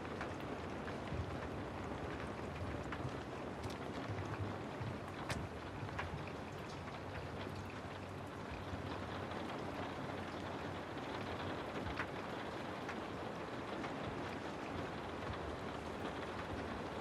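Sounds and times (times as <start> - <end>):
drips of rain drops: 0.0 - 17.0
rain falling: 0.0 - 17.0.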